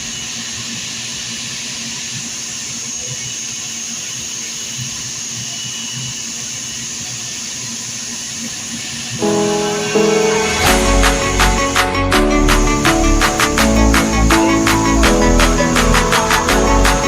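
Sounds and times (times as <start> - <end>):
machine humming with hiss: 0.0 - 17.0.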